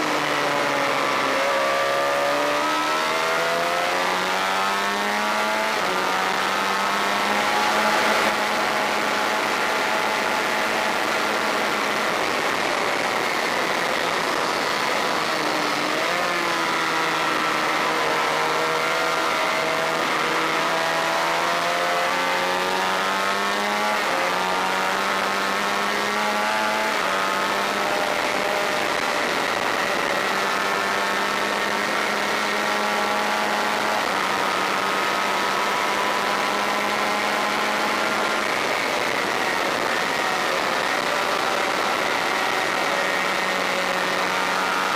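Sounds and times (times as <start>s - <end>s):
motorcycle engine running hard: 0.0s - 44.9s.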